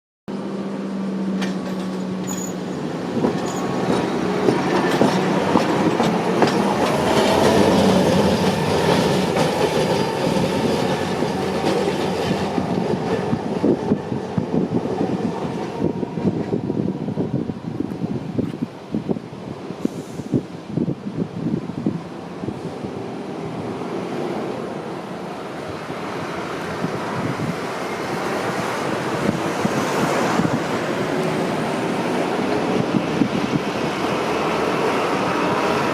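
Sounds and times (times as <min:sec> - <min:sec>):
tram passing on rails: 0:00.3 - 0:35.9.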